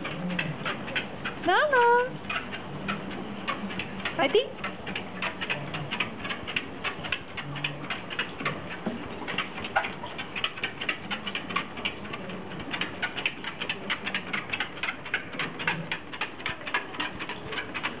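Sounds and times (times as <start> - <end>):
dog claws ticking on treadmill belt: 0.0 - 18.0.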